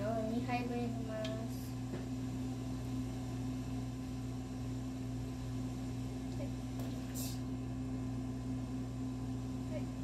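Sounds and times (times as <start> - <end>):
kitchen appliance humming: 0.0 - 10.0.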